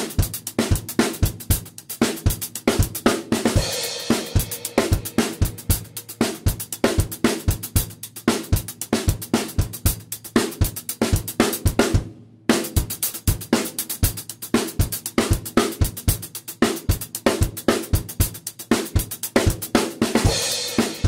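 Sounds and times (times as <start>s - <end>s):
drum kit rock beat: 0.0s - 21.0s.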